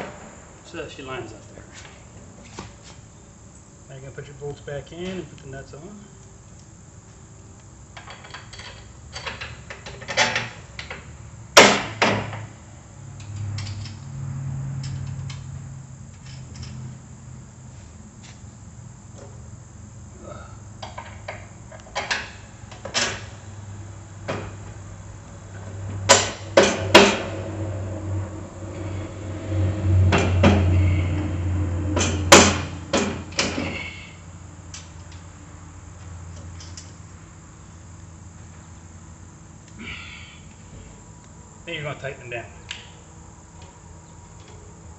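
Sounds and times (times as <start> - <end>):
low rumbling of shifted parts: 0.0 - 44.9.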